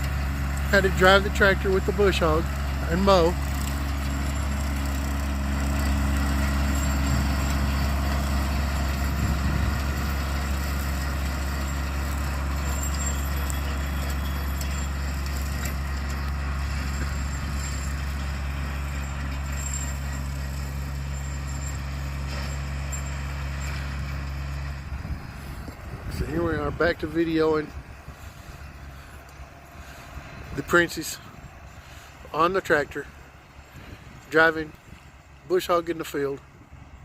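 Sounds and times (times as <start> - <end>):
tractor engine running under load: 0.0 - 37.0.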